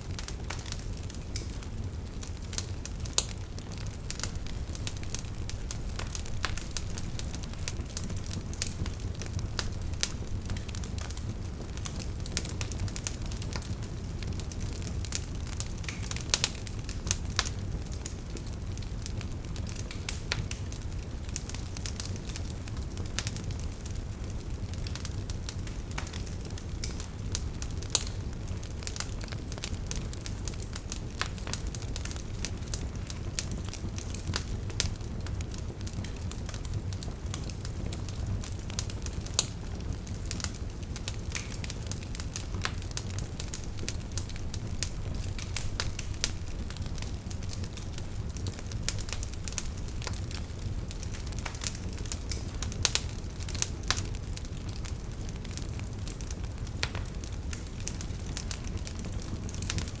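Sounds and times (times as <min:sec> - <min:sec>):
campfire crackling and popping: 0:00.0 - 1:00.0
low fire rumble: 0:00.0 - 1:00.0.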